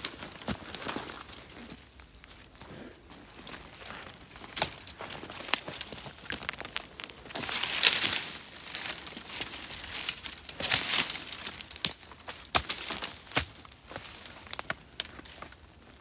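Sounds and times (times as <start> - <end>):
leaves rustling underfoot: 0.0 - 16.0
twigs snapping: 0.0 - 16.0.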